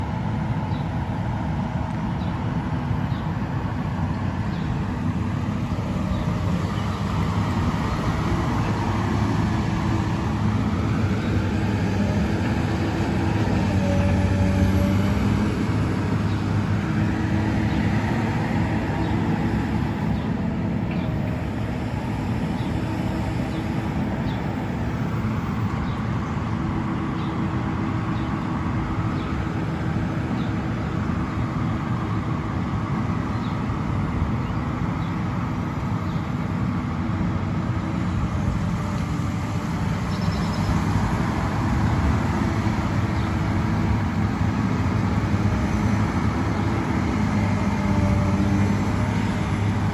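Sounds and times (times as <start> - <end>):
diesel engine droning: 0.0 - 49.9.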